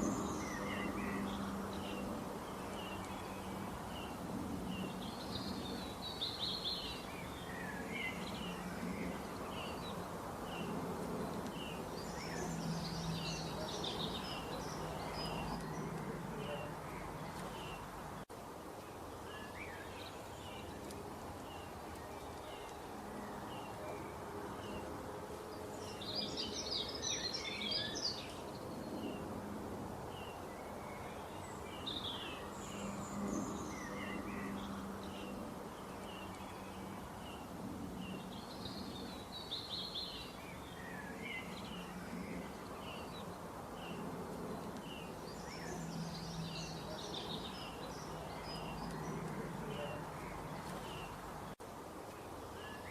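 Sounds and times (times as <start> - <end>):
small birds chirping and twittering: 0.0 - 52.9
steady background hiss: 0.0 - 52.9.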